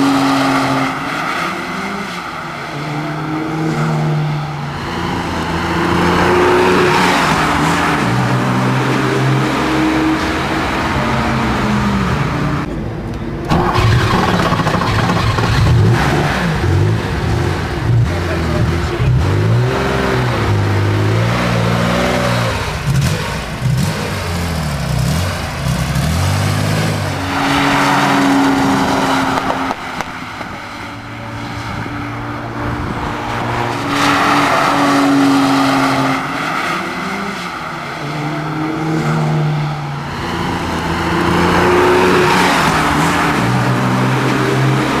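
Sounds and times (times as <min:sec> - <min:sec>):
car engine revving: 0:00.0 - 0:12.7, 0:13.4 - 0:45.0.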